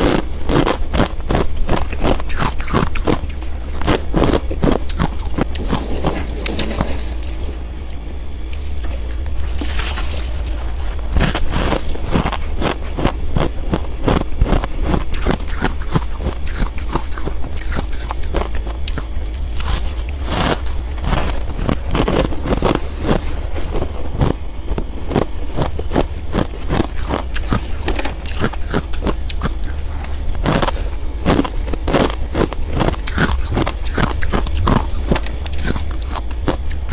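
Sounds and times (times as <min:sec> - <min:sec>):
frost being crunched by teeth: 0:00.0 - 0:07.4, 0:08.0 - 0:36.9
steady low hum: 0:00.0 - 0:36.9.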